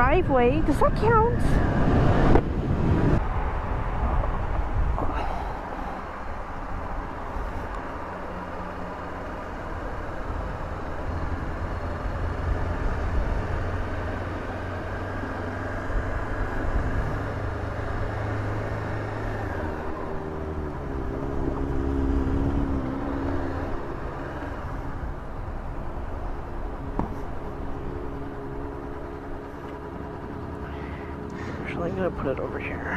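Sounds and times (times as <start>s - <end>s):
motorcycle engine low rumble: 0.0s - 32.9s.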